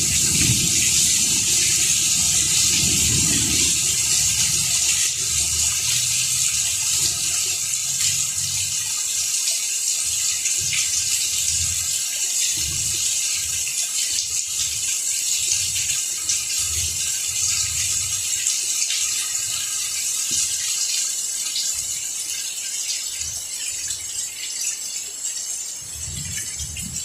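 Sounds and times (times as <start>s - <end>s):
rain falling on leaves: 0.0s - 21.7s.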